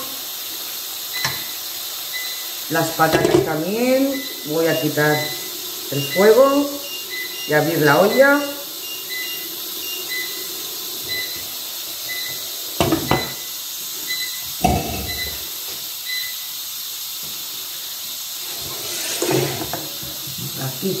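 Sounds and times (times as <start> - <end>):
pressure cooker hissing steam: 0.0 - 21.0.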